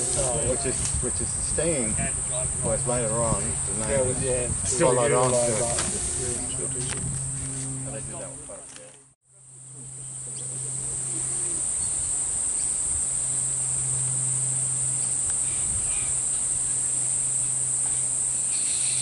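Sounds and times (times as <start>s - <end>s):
cicadas droning: 0.0s - 19.0s
low hum: 0.0s - 19.0s.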